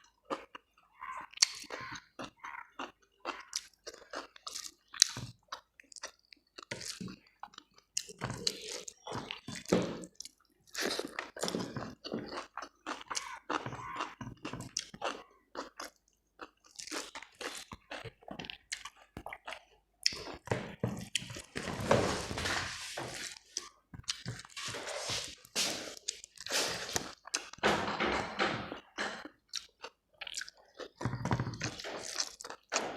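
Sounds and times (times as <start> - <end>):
person chewing and crunching food: 0.0 - 32.9.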